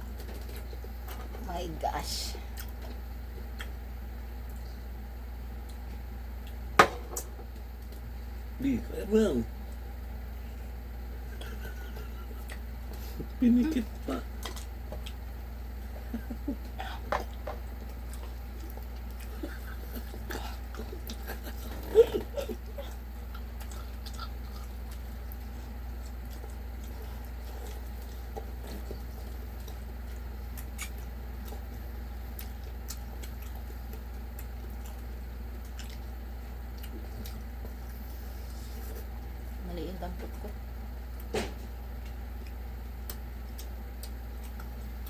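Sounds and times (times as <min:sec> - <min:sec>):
steady low hum: 0:00.0 - 0:45.0
person chewing and eating: 0:02.4 - 0:08.5, 0:09.6 - 0:39.6, 0:40.4 - 0:45.0.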